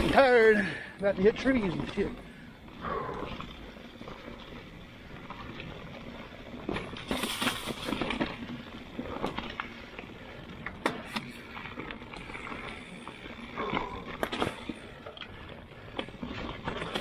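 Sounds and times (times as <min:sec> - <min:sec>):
bike rattling and knocking: 0:00.0 - 0:17.0
bike tyres on dirt and leaves: 0:00.0 - 0:17.0.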